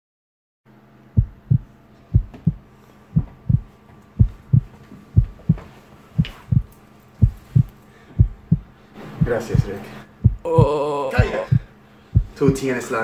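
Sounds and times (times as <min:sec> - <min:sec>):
faint low hum: 0:00.8 - 0:13.0
heartbeat double thumps: 0:01.2 - 0:12.7.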